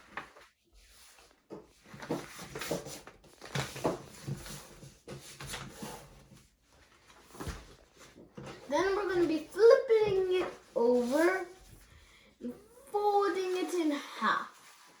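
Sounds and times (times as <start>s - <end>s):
paper rustling and creasing: 0.0s - 12.1s, 12.8s - 15.0s.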